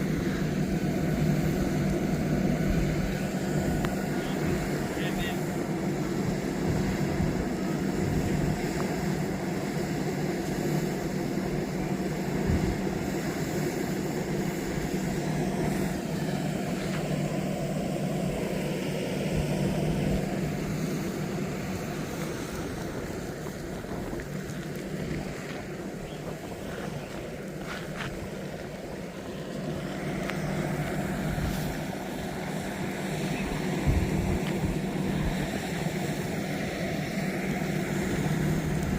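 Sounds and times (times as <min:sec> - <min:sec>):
engine humming: 0:00.0 - 0:38.9.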